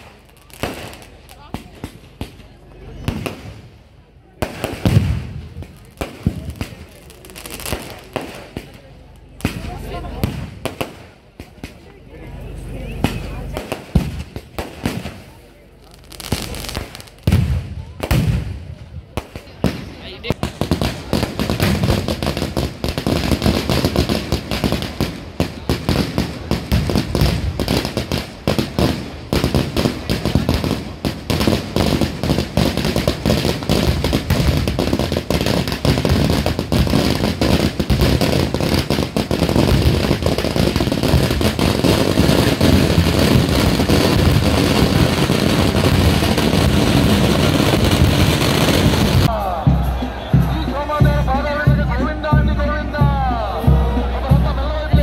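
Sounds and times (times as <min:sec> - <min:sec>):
firecrackers bursting: 0:00.0 - 0:55.0.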